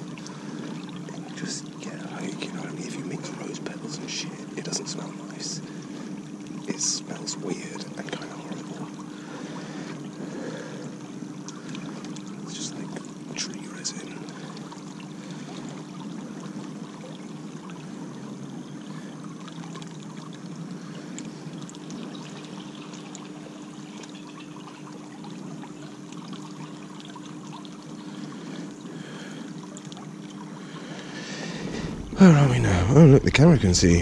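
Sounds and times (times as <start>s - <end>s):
faint low hum: 0.0s - 34.0s
river water trickling: 0.0s - 34.0s.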